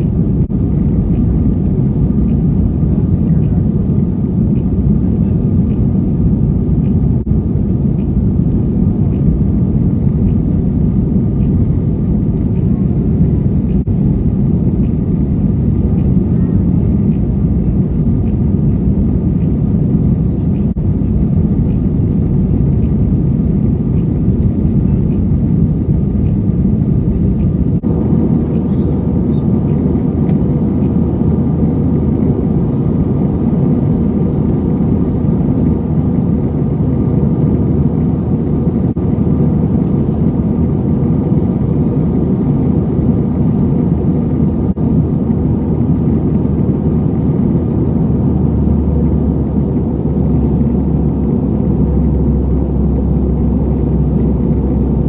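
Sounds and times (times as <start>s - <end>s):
vehicle road and engine rumble: 0.0s - 55.0s.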